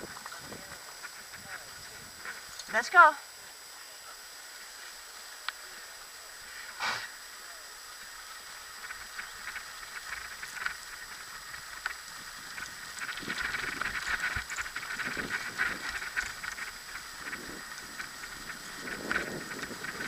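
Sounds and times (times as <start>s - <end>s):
paws and wheels on a trail: 0.0s - 20.0s.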